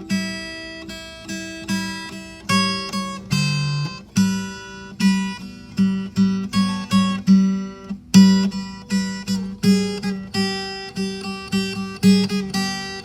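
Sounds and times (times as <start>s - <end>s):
acoustic guitar plucked chords: 0.0s - 13.0s.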